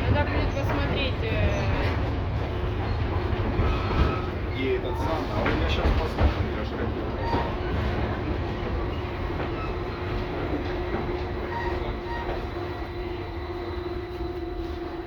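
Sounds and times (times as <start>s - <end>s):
tram rumbling and whining: 0.0s - 15.0s.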